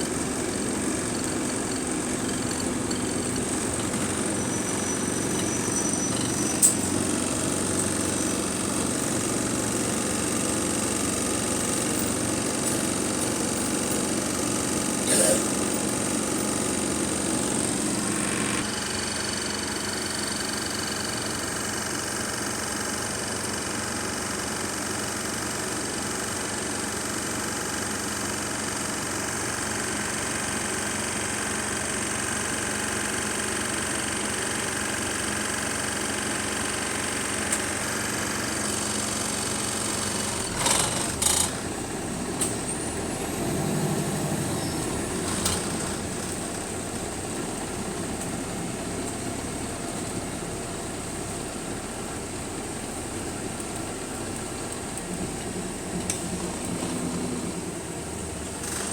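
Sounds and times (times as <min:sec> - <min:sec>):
bus engine running with rattle: 0:00.0 - 0:58.9.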